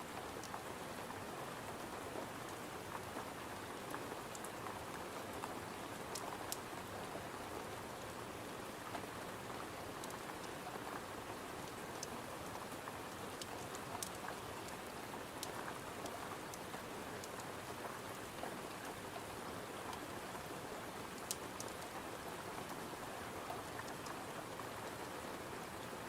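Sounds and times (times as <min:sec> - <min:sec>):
rain: 0:00.0 - 0:26.0.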